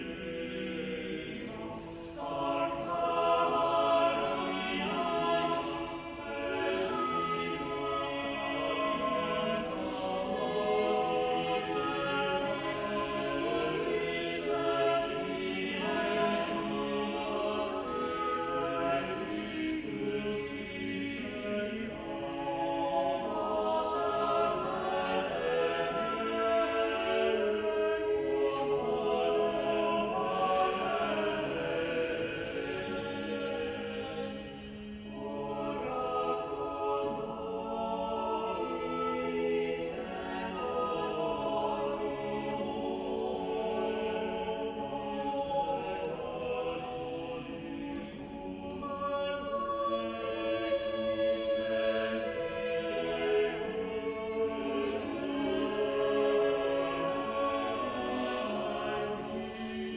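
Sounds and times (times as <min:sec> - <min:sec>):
choir singing sustained chords: 0:00.0 - 0:59.9.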